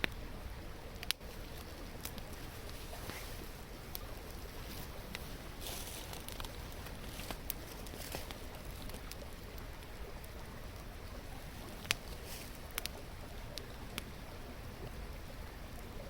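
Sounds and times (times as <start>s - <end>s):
campfire crackling and popping: 0.0s - 16.0s
stream murmuring: 0.0s - 16.0s.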